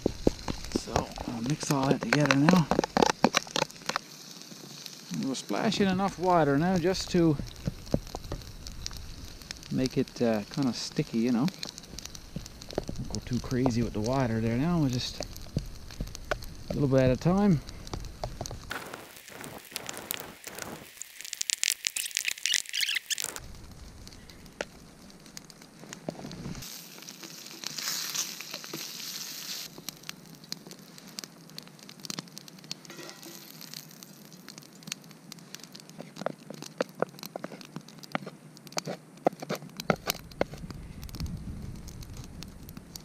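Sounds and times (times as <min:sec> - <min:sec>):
bacon frying in a pan: 0:00.0 - 0:43.0
wood fire crackling and popping: 0:00.0 - 0:43.0.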